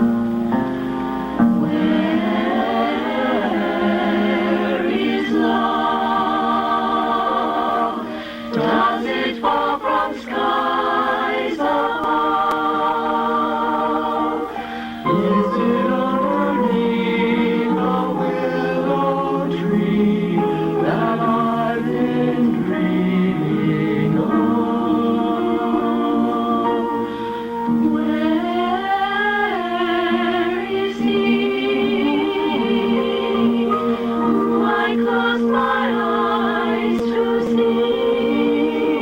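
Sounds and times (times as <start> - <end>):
choir singing in harmony: 0.0 - 39.0.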